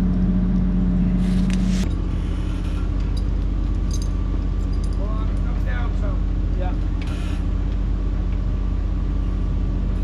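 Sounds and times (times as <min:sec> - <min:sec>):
excavator engine running: 0:00.0 - 0:10.0.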